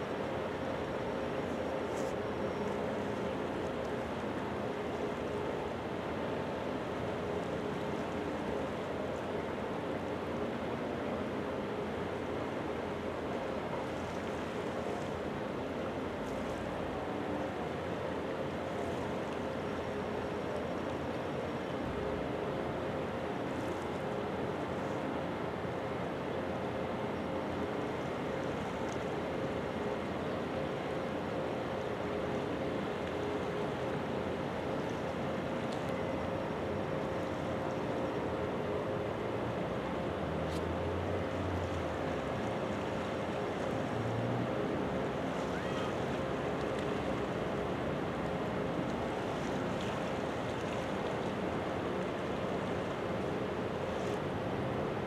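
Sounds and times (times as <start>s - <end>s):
faint constant tone: 0.0s - 55.0s
ship machinery drone: 0.0s - 55.0s
water noise: 0.0s - 55.0s
wind: 0.0s - 55.0s.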